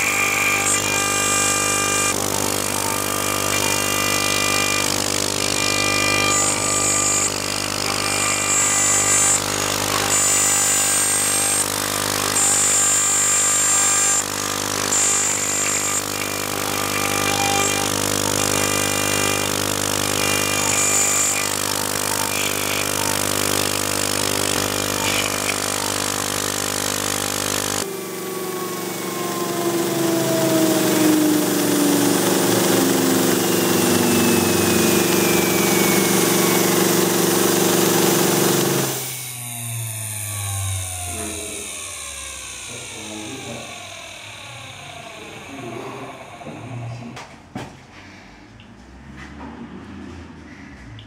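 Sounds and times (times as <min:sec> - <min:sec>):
router spindle whine cutting metal: 0:00.0 - 0:47.0.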